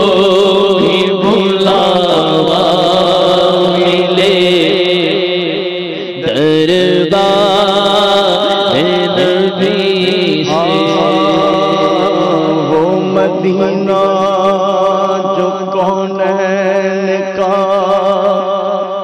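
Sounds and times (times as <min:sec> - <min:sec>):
steady low drone: 0:00.0 - 0:16.1
man singing long notes: 0:00.0 - 0:19.0.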